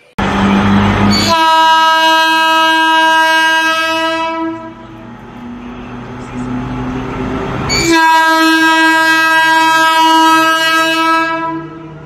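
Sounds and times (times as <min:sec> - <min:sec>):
freight train running: 0:00.0 - 0:12.0
locomotive horn blast: 0:00.2 - 0:12.0.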